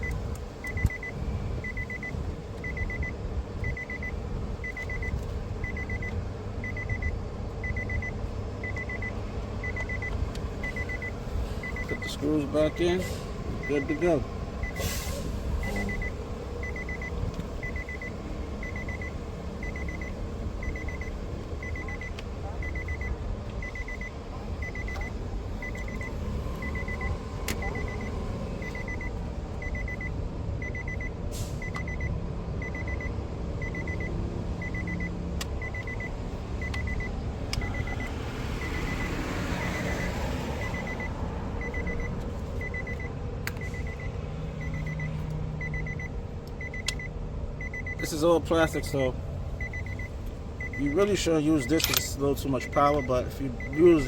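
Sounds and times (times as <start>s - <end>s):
car warning chime beeping: 0.0s - 14.8s, 15.6s - 54.0s.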